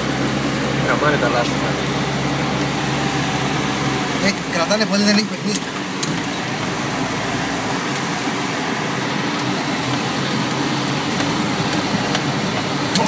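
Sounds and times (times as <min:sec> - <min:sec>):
car engine running: 0:00.0 - 0:13.0
tyre and road noise: 0:00.0 - 0:13.0.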